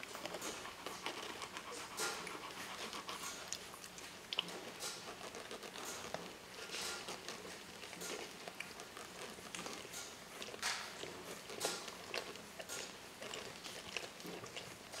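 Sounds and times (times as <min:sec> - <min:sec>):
dog licking: 0:00.0 - 0:15.0
puppies suckling: 0:00.0 - 0:15.0.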